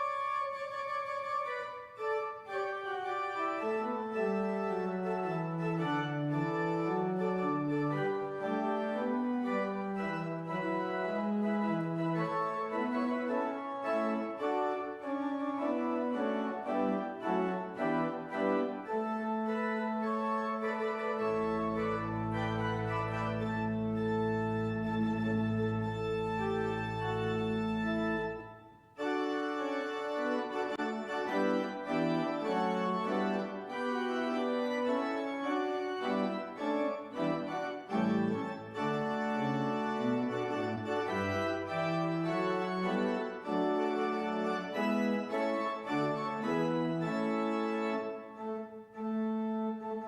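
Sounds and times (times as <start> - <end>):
church organ playing: 0.0 - 50.0.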